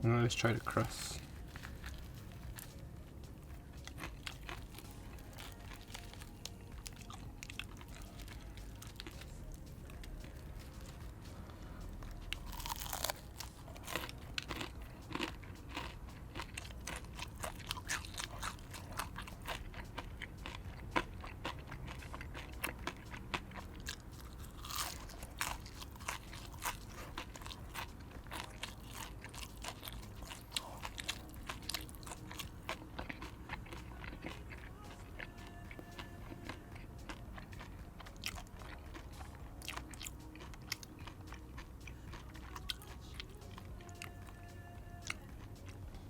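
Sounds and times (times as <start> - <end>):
crunchy fried chicken chewing: 0.4 - 46.0.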